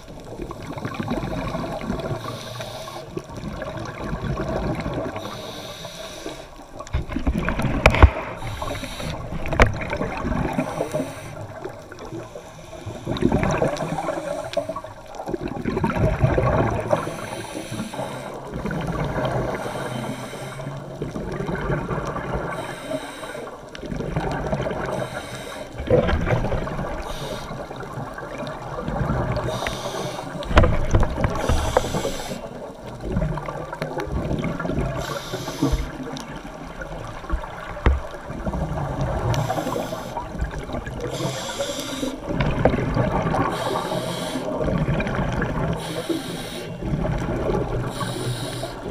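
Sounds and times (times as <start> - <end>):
diver's bubbles gurgling: 0.0 - 48.9
steady hiss of water: 0.0 - 48.9.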